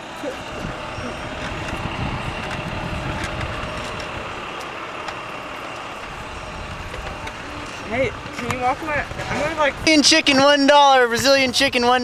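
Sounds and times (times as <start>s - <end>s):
outdoor rushing background noise: 0.0s - 12.0s.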